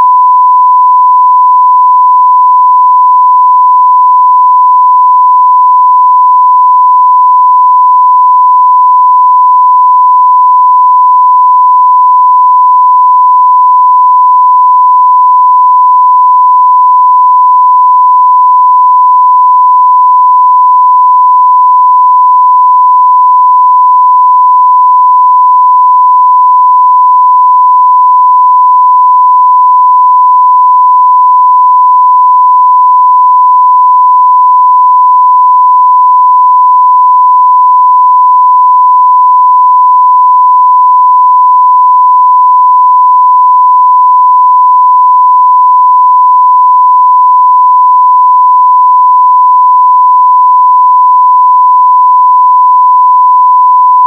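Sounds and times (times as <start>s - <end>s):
sine-wave test tone: 0.0s - 54.0s.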